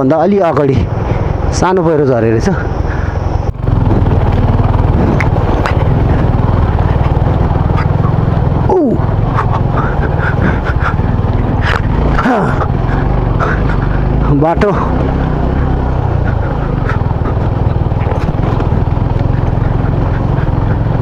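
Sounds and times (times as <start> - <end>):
knocks from bumpy dirt road: 0.0 - 21.0
motorcycle engine running: 0.0 - 21.0.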